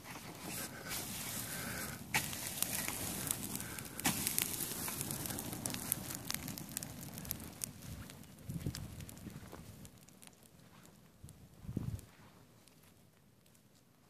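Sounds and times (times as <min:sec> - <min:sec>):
dry weeds burning and crackling: 0:00.0 - 0:14.0
fire popping and snapping: 0:00.0 - 0:14.0.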